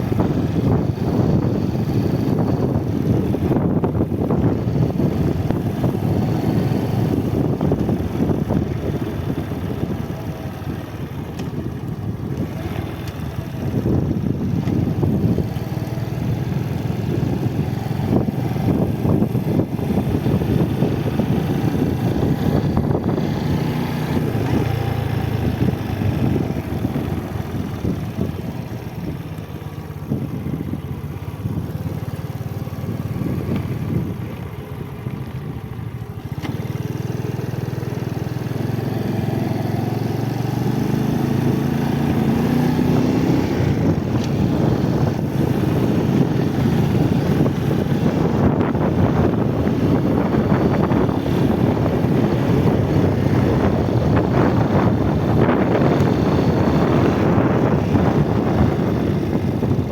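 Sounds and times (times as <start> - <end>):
motorcycle engine running: 0.0 - 59.9
road and wind rush: 0.0 - 59.9.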